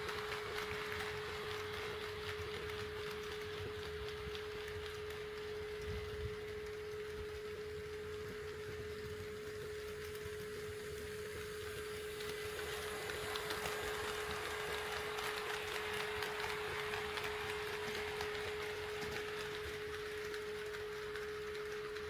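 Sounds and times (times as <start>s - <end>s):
model train running on track: 0.0s - 22.0s.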